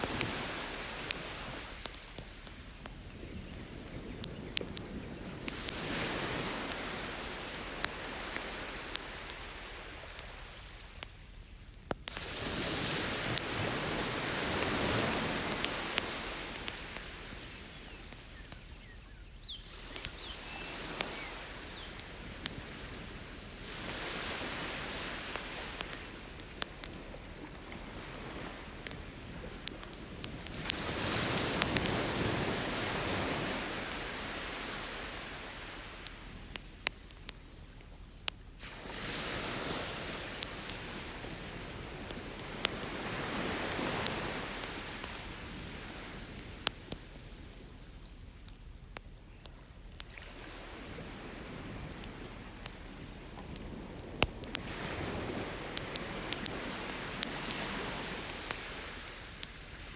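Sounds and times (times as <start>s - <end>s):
ocean waves on beach: 0.0s - 18.9s, 19.6s - 37.3s, 38.6s - 48.2s, 49.4s - 59.9s
campfire crackling and popping: 0.0s - 59.9s.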